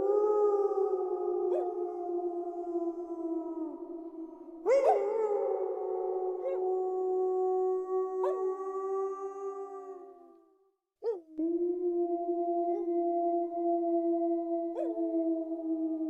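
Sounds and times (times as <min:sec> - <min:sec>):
wolves howling: 0:00.0 - 0:10.2, 0:11.1 - 0:16.0.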